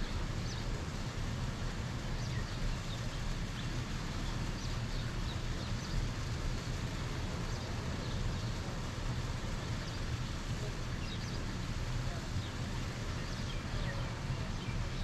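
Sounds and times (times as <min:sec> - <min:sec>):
constant low outdoor noise: 0:00.0 - 0:15.0.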